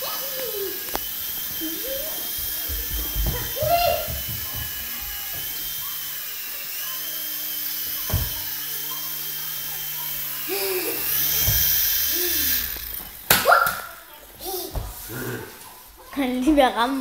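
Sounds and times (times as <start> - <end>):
toy helicopter rotor whine: 0.0 - 14.3.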